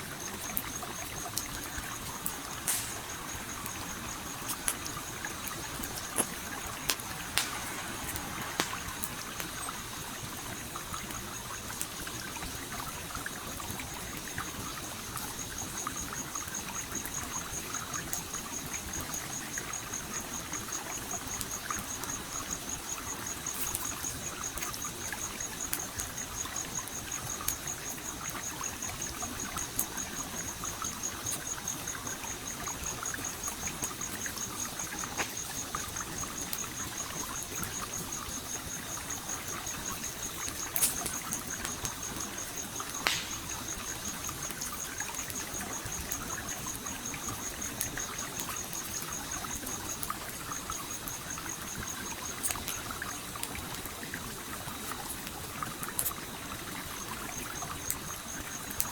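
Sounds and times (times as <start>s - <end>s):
campfire crackling: 0.0s - 58.9s
stream water trickling: 0.0s - 58.9s.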